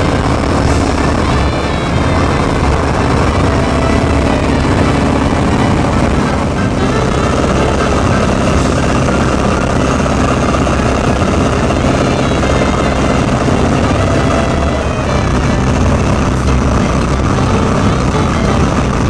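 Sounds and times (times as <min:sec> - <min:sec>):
radial engine and propeller running: 0:00.0 - 0:19.0.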